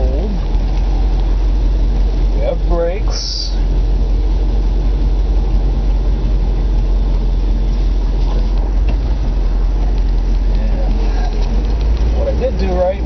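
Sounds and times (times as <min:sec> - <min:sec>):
engine rumbling and missing: 0:00.0 - 0:13.0.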